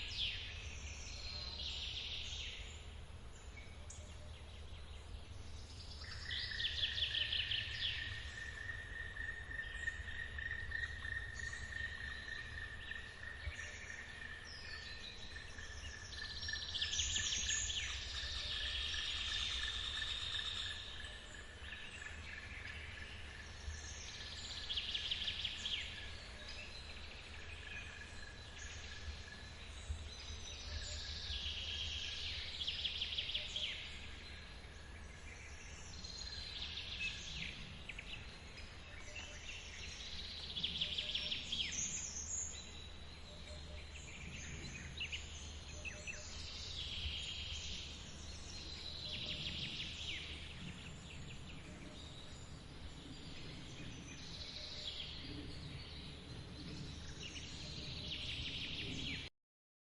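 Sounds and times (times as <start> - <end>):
songbirds singing: 0.0 - 59.3.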